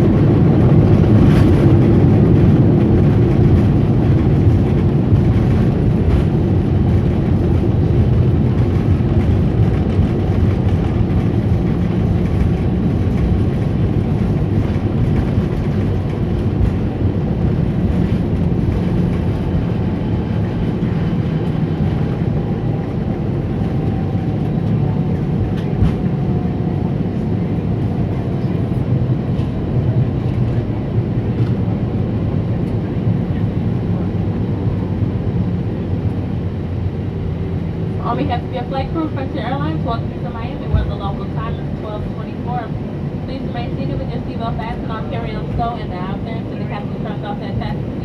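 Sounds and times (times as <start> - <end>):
jet engines and wheels rumbling: 0.0 - 48.0.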